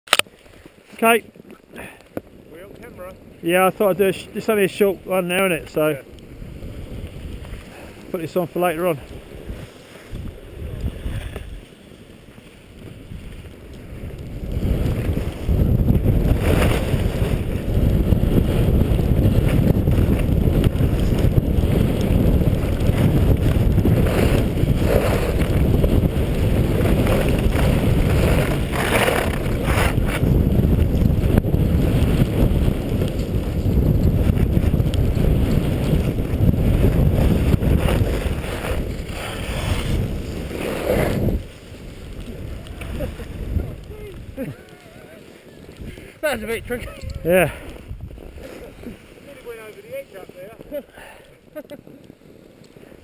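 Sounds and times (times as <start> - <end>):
wind rushing over microphone: 0.9 - 53.0
skis swishing in powder snow: 2.6 - 53.0.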